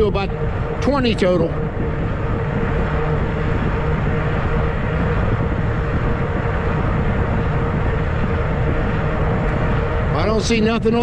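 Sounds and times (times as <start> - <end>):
faint steady hum: 0.0 - 11.0
wind rush over microphone: 0.0 - 11.0.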